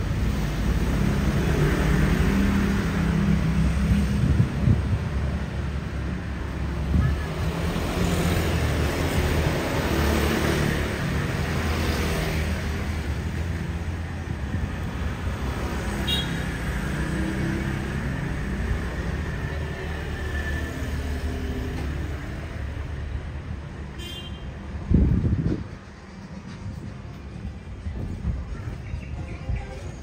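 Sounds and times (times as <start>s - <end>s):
motor scooter engines humming: 0.0s - 24.4s.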